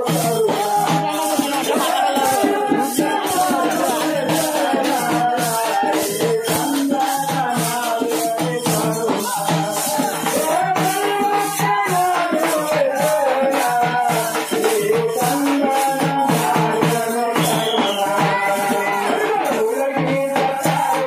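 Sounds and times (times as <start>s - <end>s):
shaken rattles or jingles: 0.0s - 21.0s.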